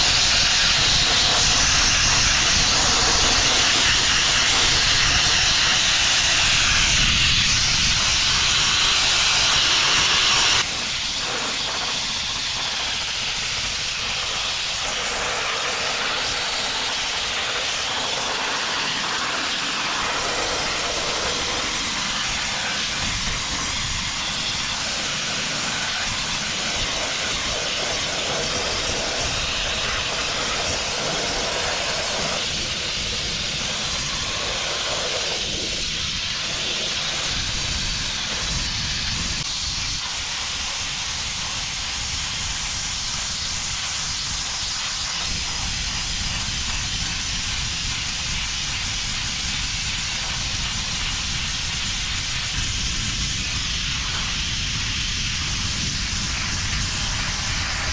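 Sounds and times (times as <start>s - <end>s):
blasting nozzle hissing: 0.0s - 57.9s.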